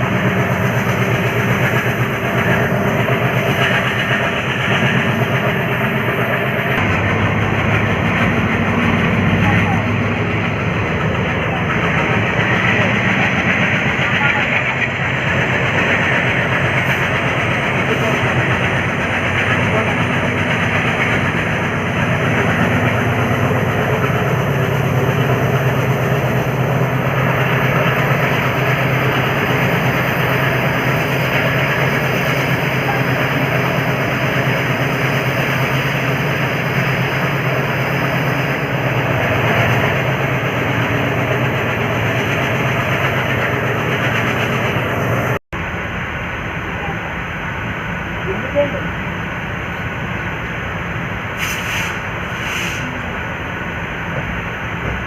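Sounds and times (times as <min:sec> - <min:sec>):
diesel engine drone: 0:00.0 - 0:55.0
train rumbling on rails: 0:00.0 - 0:55.0.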